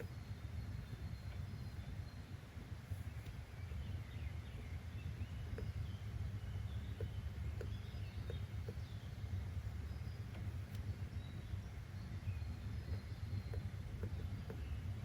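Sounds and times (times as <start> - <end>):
faint bird chirps: 0.0 - 15.0
steady low rumble: 0.0 - 15.0.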